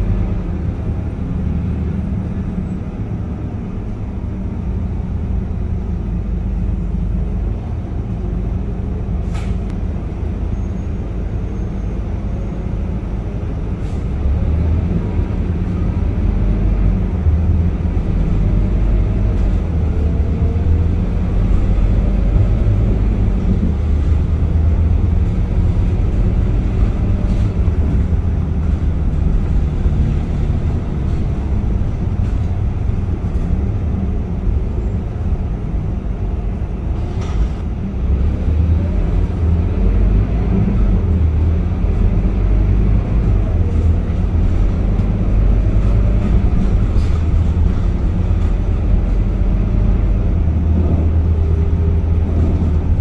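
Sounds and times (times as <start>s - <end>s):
bus engine drone: 0.0s - 53.0s.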